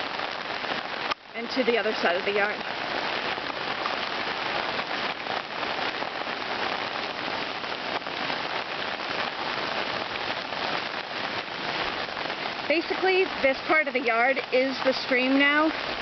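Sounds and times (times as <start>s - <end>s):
close raindrop hits: 0.0s - 16.0s
heavy rain: 0.0s - 16.0s.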